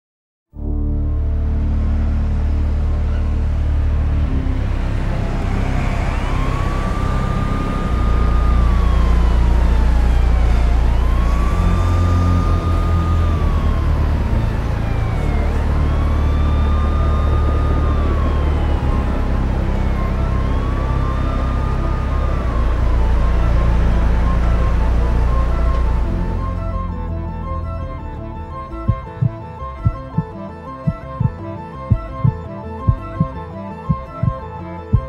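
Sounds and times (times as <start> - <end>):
deep steady low drone: 0.6 - 35.0
siren wailing: 1.9 - 35.0.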